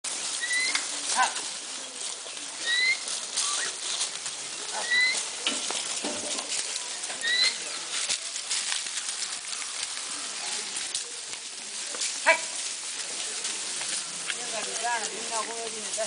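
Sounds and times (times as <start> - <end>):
goats and sheep rustling through brush: 0.0 - 16.0.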